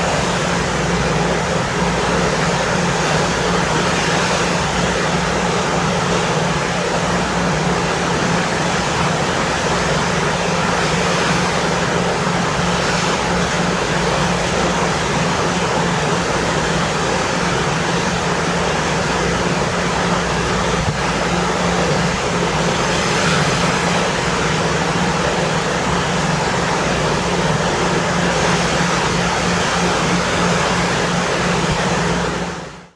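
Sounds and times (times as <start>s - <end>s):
ferry engines droning: 0.0s - 32.9s
sea: 0.0s - 32.9s
wind: 0.0s - 32.9s.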